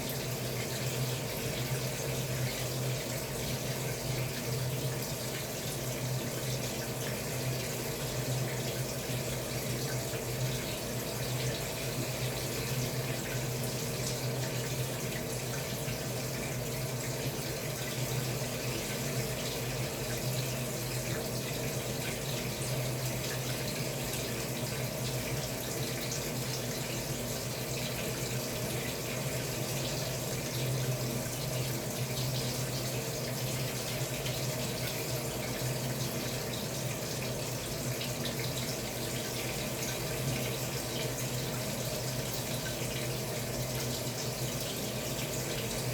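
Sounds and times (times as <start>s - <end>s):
water rushing in washing machine: 0.0s - 45.9s.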